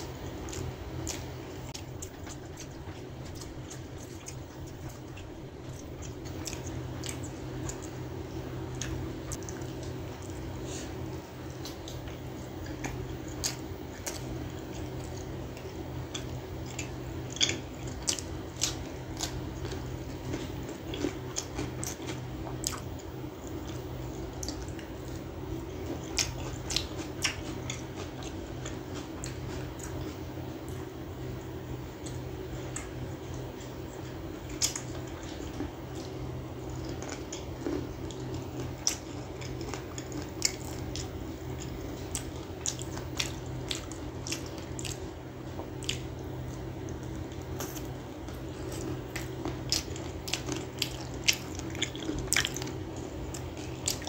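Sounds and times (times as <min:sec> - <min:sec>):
person chewing wetly: 0:00.0 - 0:54.0
steady low hum: 0:00.0 - 0:54.0.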